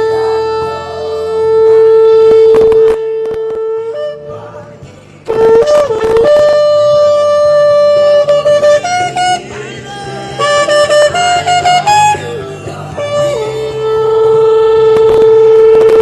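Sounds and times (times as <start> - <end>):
ram's horn blasts: 0.0 - 16.0.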